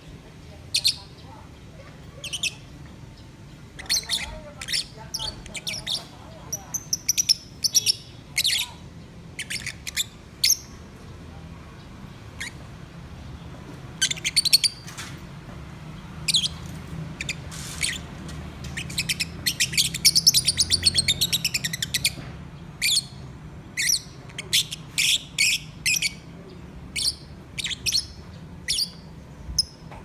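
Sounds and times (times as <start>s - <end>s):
lovebirds chirping: 2.2s - 11.0s, 11.7s - 13.3s, 13.9s - 15.0s, 15.9s - 30.0s.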